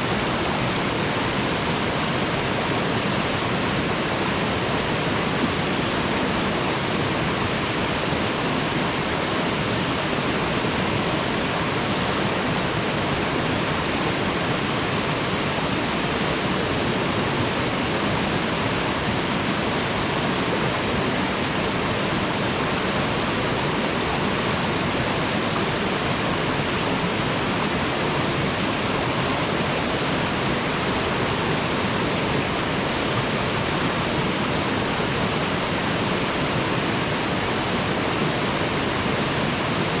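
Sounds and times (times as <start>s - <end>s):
waterfall splashing: 0.0s - 40.0s.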